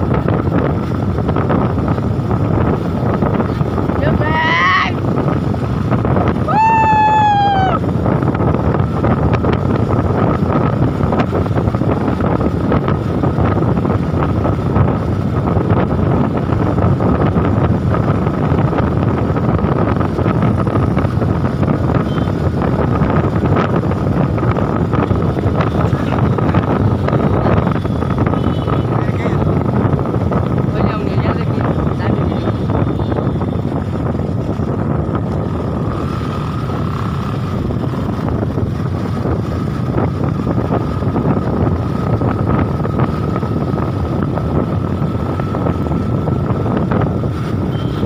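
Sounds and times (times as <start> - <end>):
motorcycle running on tarmac: 0.0 - 48.0
wind rushing over microphone: 0.0 - 48.0.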